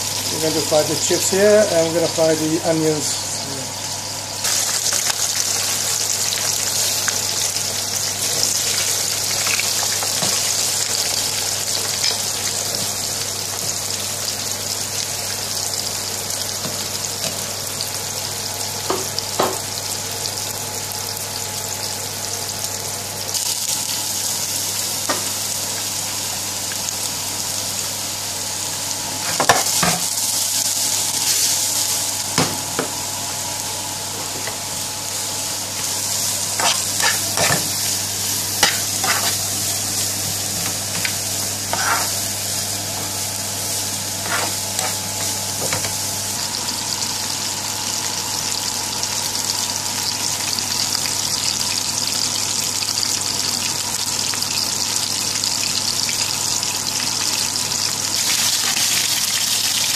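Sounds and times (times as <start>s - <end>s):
chips sizzling in hot oil: 0.0s - 59.9s.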